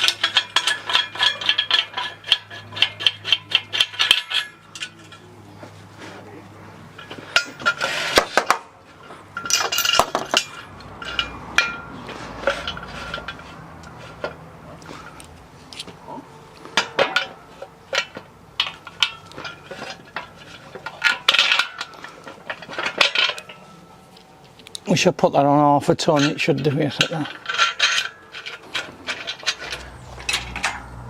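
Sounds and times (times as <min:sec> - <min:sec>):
metal parts clinking: 0:00.0 - 0:05.2, 0:07.0 - 0:08.6, 0:09.3 - 0:14.4, 0:16.8 - 0:24.9, 0:26.0 - 0:31.0.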